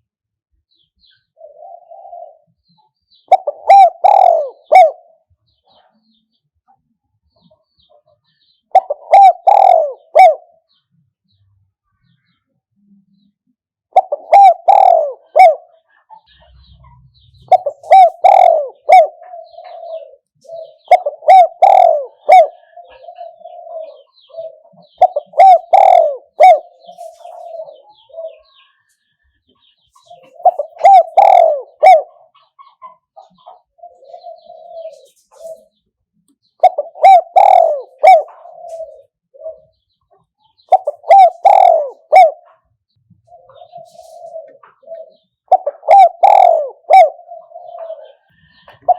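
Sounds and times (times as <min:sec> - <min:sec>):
dove cooing: 0:01.3 - 0:06.1, 0:08.7 - 0:10.7, 0:13.9 - 0:28.8, 0:29.9 - 0:35.8, 0:36.5 - 0:48.9.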